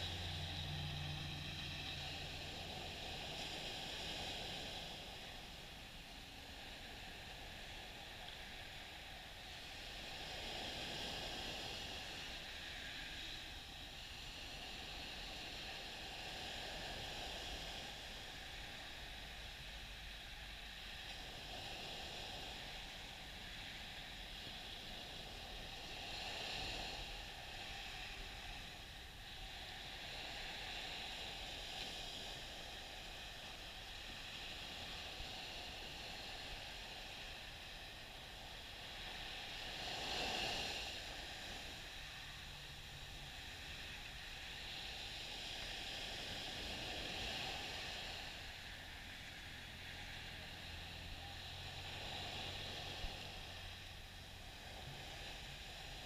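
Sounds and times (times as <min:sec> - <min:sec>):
small waves washing up beach: 0:00.0 - 0:56.0.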